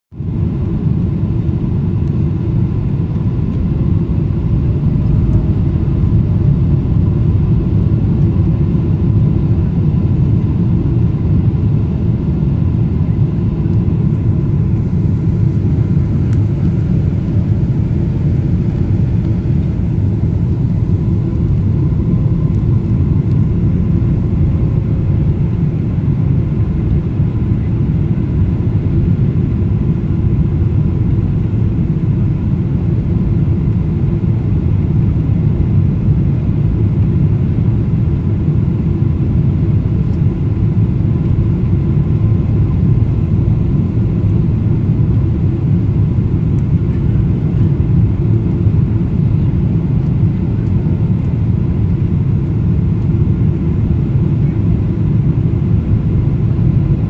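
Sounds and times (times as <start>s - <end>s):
jet engine and airflow rumble: 0.1s - 57.0s
faint steady whine: 0.2s - 57.0s.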